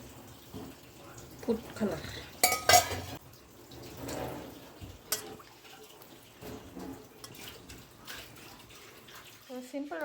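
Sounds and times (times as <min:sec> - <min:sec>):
utensils clinking on cookware: 0:01.4 - 0:10.0.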